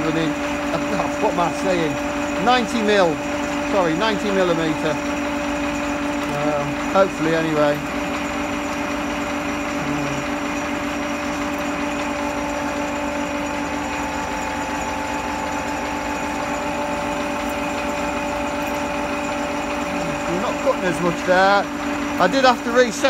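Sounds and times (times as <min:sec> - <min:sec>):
lathe tool cutting steel: 0:00.0 - 0:23.0
metal lathe running: 0:00.0 - 0:23.0.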